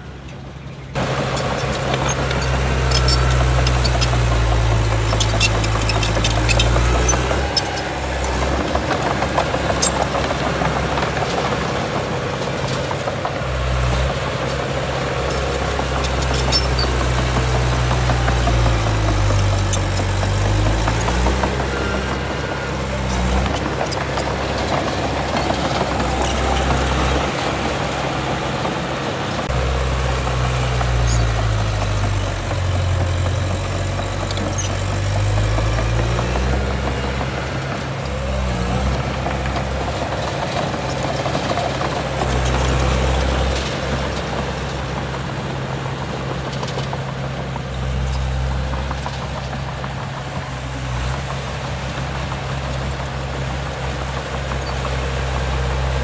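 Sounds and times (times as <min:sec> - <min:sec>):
heavy diesel machinery running: 0:00.0 - 0:56.0
sharp clicks and rattles: 0:00.3 - 0:56.0.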